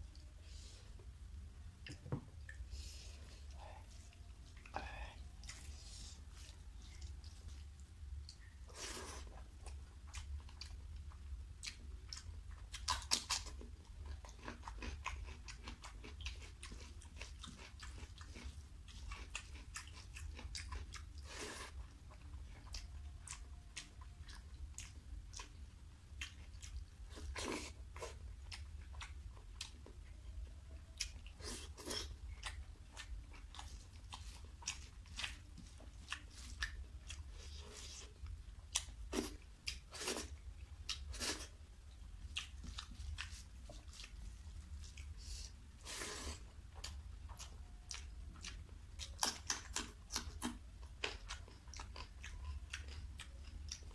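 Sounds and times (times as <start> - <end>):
steady low hum: 0.0 - 53.9
wet chewing and mouth smacks: 5.4 - 53.9.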